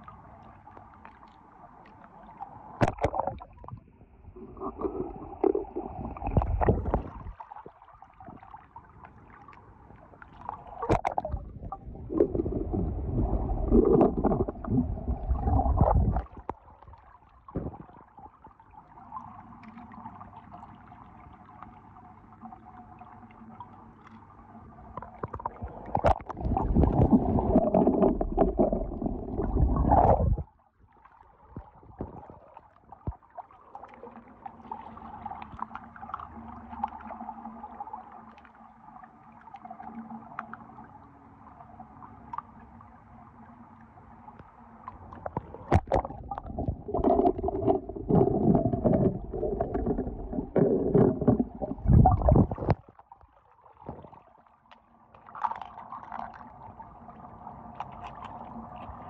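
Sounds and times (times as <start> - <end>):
faint steady hum: 0.0 - 59.0
water sloshing and gurgling: 0.0 - 59.0.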